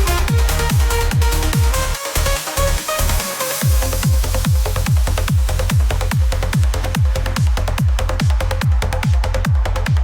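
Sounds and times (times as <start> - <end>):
hard fast kick drum: 0.0 - 2.0, 3.6 - 10.0
trance music: 0.0 - 10.0.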